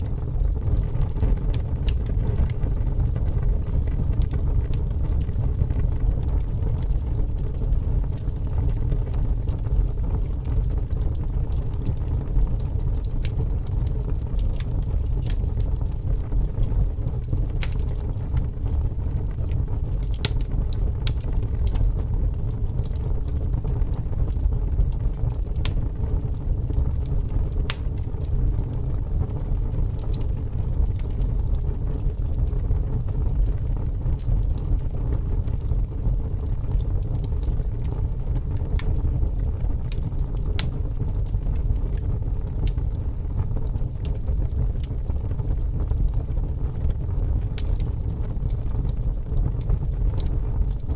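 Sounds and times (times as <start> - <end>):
fire crackling: 0.0 - 50.9.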